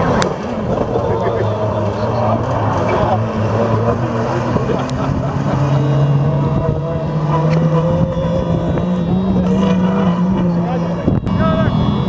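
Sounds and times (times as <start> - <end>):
race truck engine accelerating: 0.0 - 12.0.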